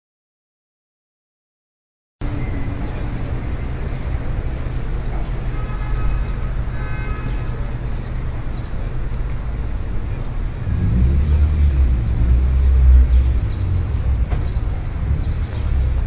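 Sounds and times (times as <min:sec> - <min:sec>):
distant road traffic rumble: 0:02.2 - 0:16.0.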